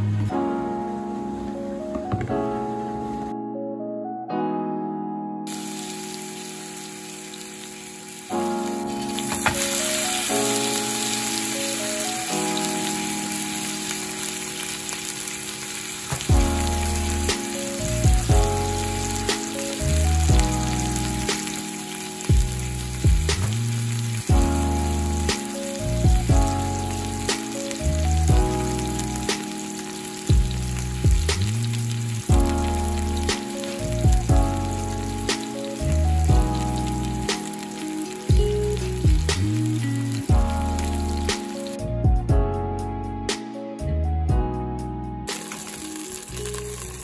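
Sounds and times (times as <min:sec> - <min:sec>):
background music: 0:00.0 - 0:47.0
meat sizzling in hot oil: 0:05.5 - 0:41.8, 0:45.3 - 0:47.0.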